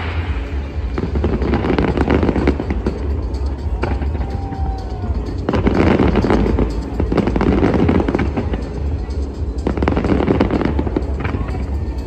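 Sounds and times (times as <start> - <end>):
low rumble: 0.0 - 10.0
fireworks bangs and crackling: 0.0 - 12.0
music playing: 0.0 - 12.0.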